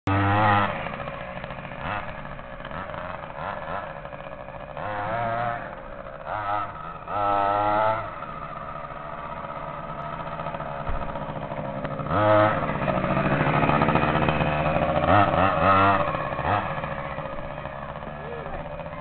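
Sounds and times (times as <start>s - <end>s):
two-stroke engine revving: 0.1s - 19.0s.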